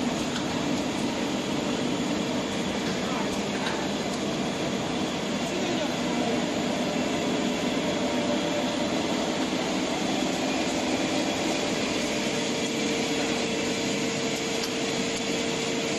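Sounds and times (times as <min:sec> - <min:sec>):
machine whirring: 0:00.0 - 0:15.9.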